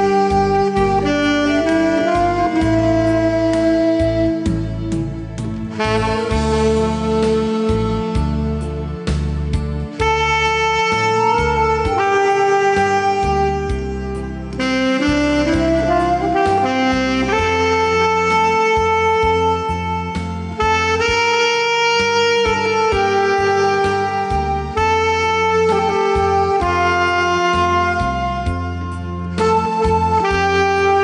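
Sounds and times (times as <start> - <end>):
alto saxophone ballad melody: 0.0 - 31.0
backing track with bass: 0.0 - 31.0.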